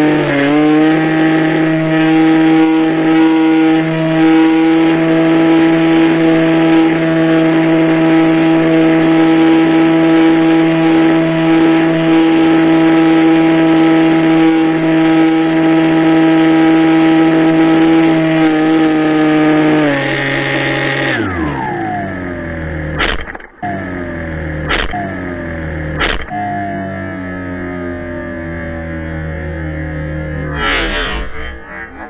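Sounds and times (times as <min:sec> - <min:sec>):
model airplane motor drone: 0:00.0 - 0:31.6.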